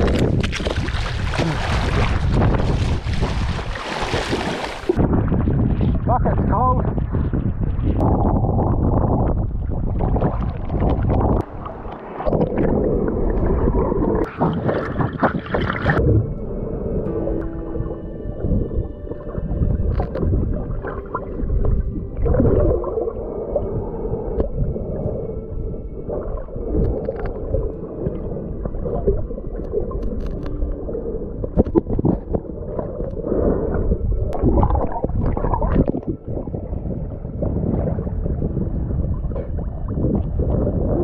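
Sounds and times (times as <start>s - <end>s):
knocks and scrapes underwater: 0.0s - 16.2s, 19.7s - 23.0s, 26.2s - 41.0s
underwater rumble and gurgling: 0.0s - 41.0s.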